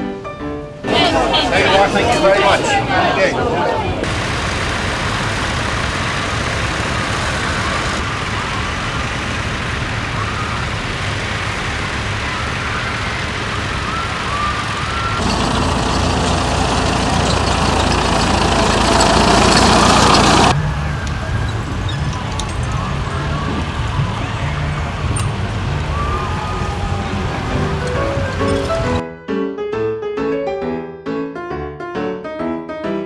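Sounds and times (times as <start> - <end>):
tractor diesel engine running: 0.9 - 29.0.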